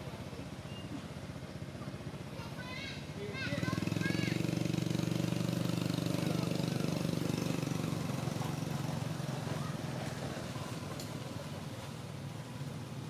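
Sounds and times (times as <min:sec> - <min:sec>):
small engine humming: 0:00.0 - 0:13.0.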